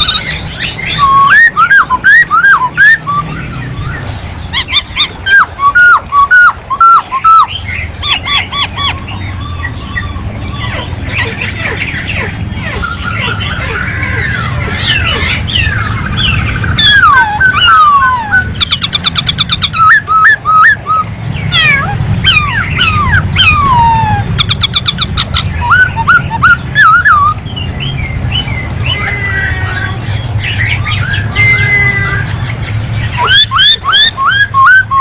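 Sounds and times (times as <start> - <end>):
bird singing whistled trills: 0.0 - 29.0, 33.0 - 35.0.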